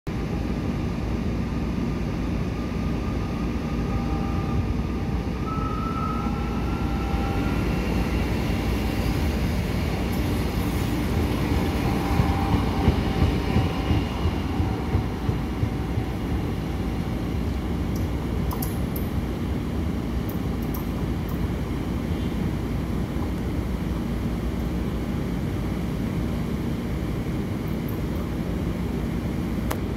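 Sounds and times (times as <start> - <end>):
faint train whine: 0.1 - 29.9
train rolling rumble: 0.1 - 29.9.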